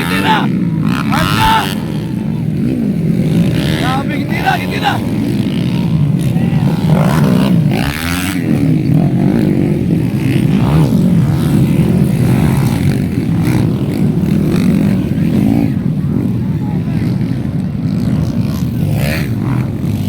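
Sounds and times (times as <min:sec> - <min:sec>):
motorcycles racing: 0:00.0 - 0:20.0.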